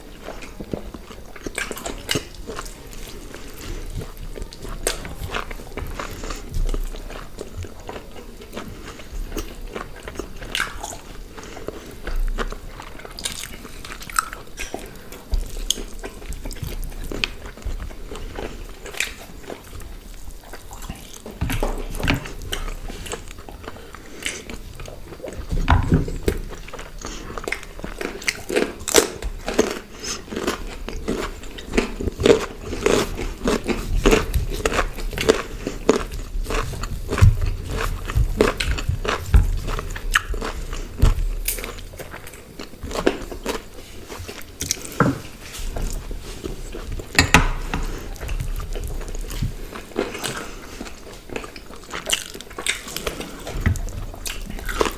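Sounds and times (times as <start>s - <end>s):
people chewing food: 0.0s - 54.9s.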